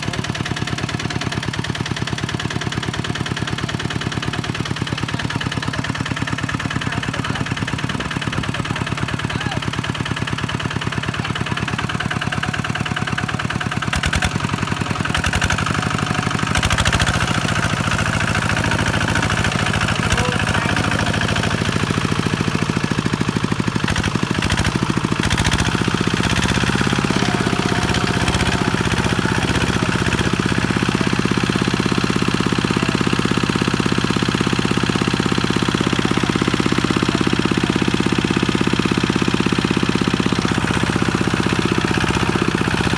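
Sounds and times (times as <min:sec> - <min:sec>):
diesel engine chugging: 0:00.0 - 0:42.9.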